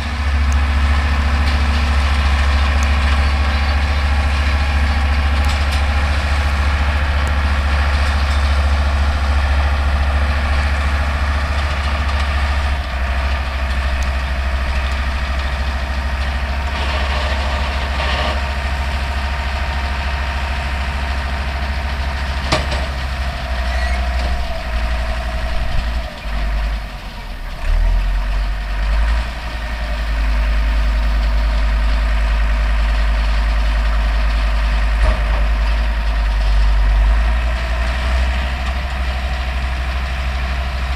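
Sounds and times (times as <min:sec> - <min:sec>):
baler machinery working: 0:00.0 - 0:40.9
tractor diesel engine under load: 0:00.0 - 0:40.9.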